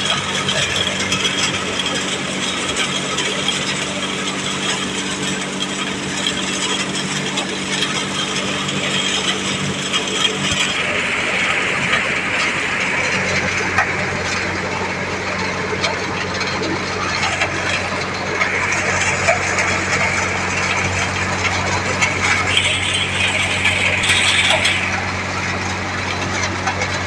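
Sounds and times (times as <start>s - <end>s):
low machine hum: 0.0s - 27.0s
thresher rattling: 0.0s - 27.0s.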